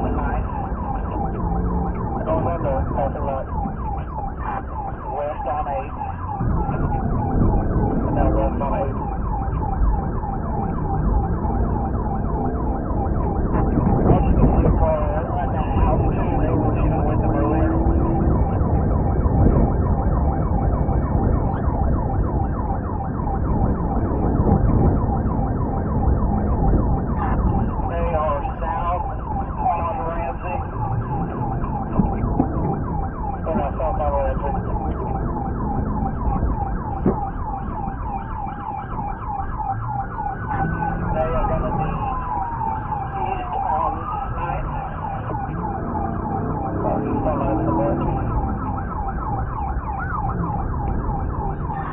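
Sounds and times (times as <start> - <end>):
car engine and road noise: 0.0 - 51.9
police siren yelping and wailing: 0.0 - 51.9.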